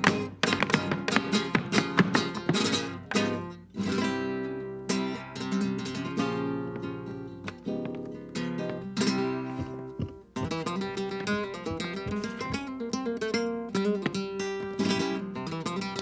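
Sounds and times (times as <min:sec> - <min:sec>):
flamenco acoustic guitar: 0:00.0 - 0:16.0.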